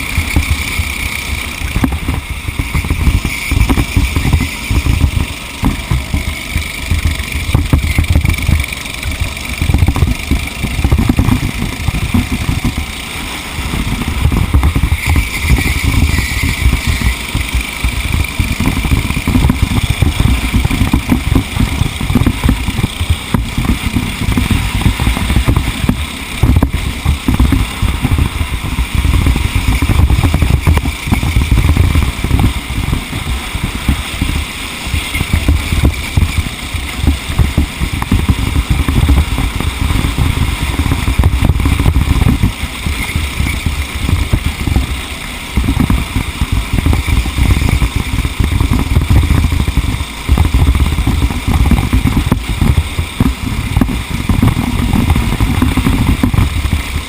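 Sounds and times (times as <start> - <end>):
kart engine racing: 0.0 - 57.0
low rumble: 0.0 - 57.0.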